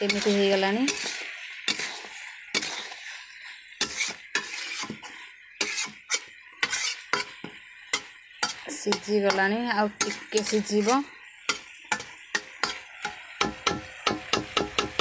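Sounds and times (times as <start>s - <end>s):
faint sizzle: 0.0s - 15.0s
metal spatula scraping a pan: 0.0s - 15.0s.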